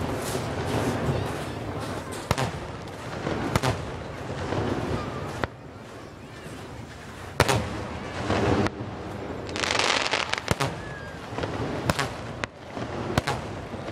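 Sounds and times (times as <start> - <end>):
firework booms: 0.0 - 13.9
rushing crackling fireworks: 0.0 - 13.9.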